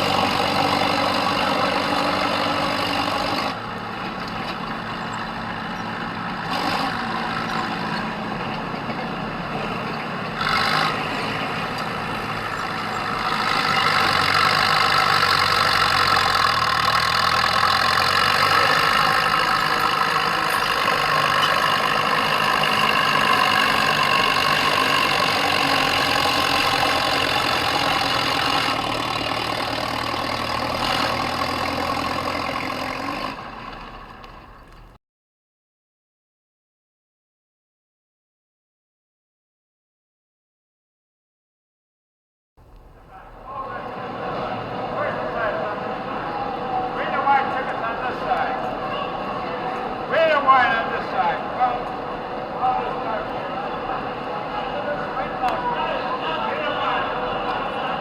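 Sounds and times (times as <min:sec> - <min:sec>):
vehicle engine running: 0:00.0 - 0:35.0, 0:42.6 - 0:58.0.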